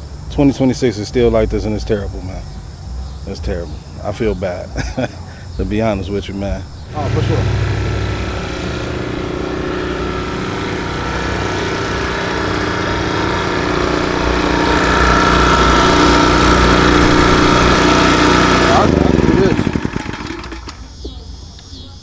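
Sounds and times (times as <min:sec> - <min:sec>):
engine humming: 0:00.0 - 0:21.8.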